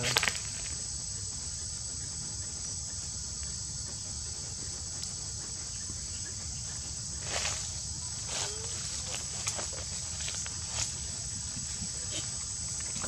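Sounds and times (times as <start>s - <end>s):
insects droning: 0.0s - 13.0s
rustle: 0.0s - 13.0s.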